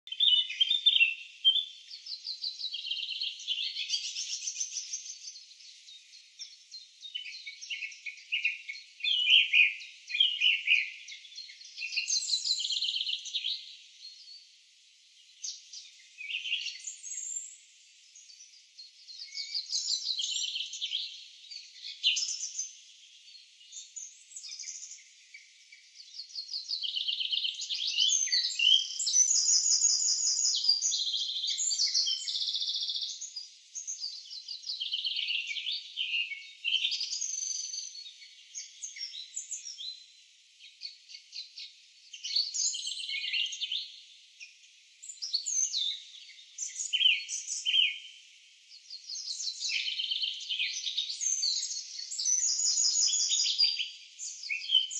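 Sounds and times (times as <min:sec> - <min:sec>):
small birds chirping and trilling: 0:00.0 - 0:54.9.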